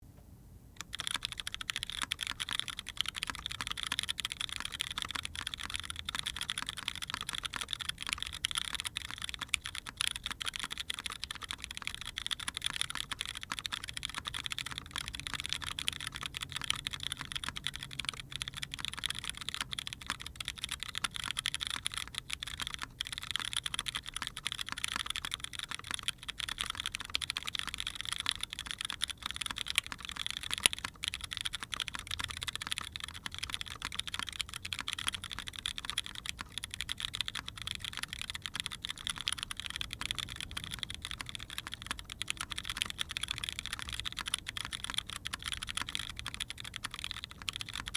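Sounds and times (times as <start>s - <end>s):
fast typing on mechanical keyboard: 0.8s - 47.9s.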